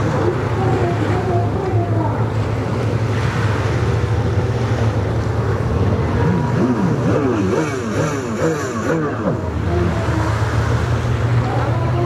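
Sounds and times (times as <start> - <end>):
jet ski engines running hard: 0.0 - 12.0.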